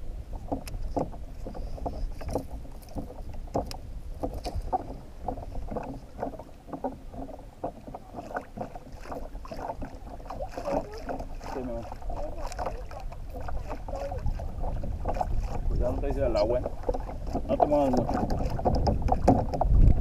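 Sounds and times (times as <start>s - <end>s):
water slapping a kayak hull: 0.0s - 20.0s.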